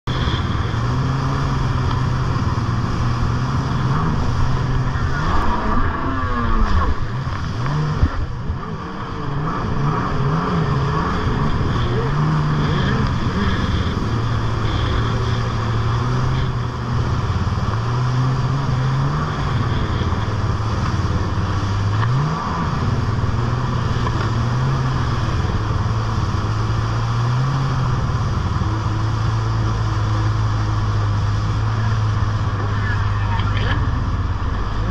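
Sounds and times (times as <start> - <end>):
rush of spray and wind: 0.0 - 34.9
jet ski engine revving: 0.1 - 34.9.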